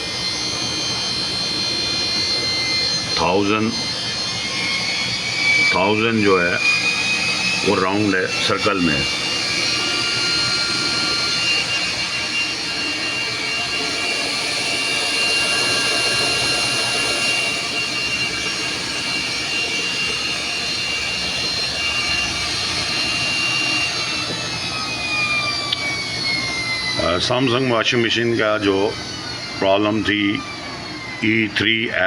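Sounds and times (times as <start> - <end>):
spinning drum rush: 0.0 - 32.0
washing machine motor whine: 0.0 - 32.0.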